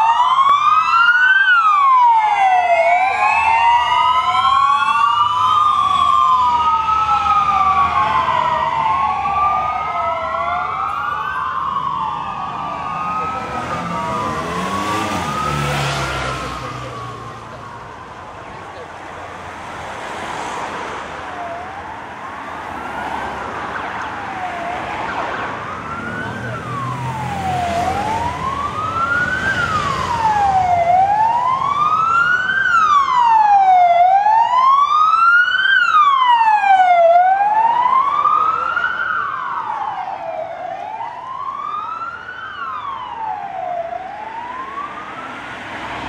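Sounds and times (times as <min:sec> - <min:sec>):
second siren: 0:00.0 - 0:19.0, 0:21.2 - 0:46.0
passing vehicle engines: 0:00.0 - 0:46.0
wailing police siren: 0:00.0 - 0:46.0.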